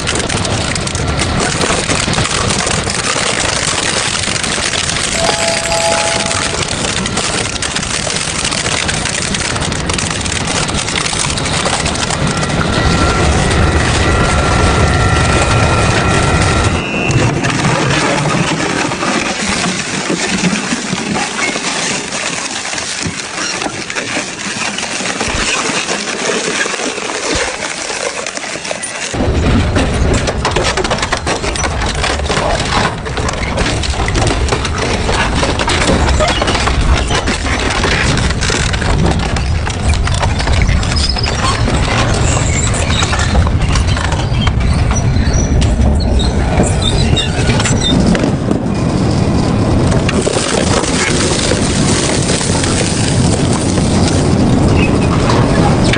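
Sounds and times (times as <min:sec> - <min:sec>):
deep machine rumble: 0:00.0 - 0:19.6, 0:29.1 - 0:55.9
shredder crunching scrap metal: 0:00.0 - 0:44.9, 0:46.6 - 0:55.9.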